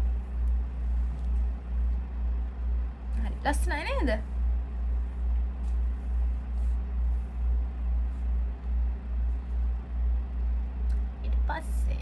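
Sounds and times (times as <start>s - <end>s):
pulsing low droning hum: 0.0s - 12.0s.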